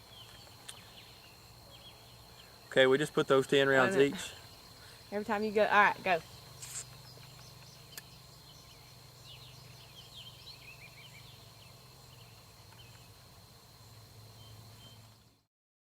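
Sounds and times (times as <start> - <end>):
bird chirping: 0.0 - 13.3, 13.9 - 15.4
high insect drone: 0.0 - 15.5.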